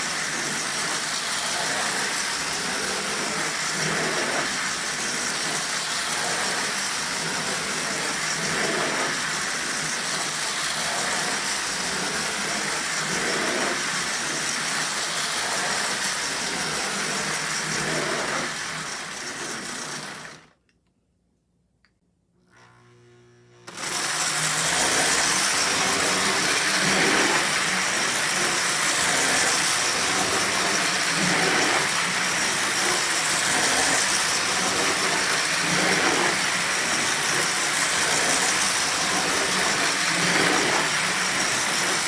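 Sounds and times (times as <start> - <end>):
toy train motor hum: 0.0 - 20.5, 22.5 - 42.0
toy train wheel rumble: 0.0 - 20.5, 23.7 - 42.0.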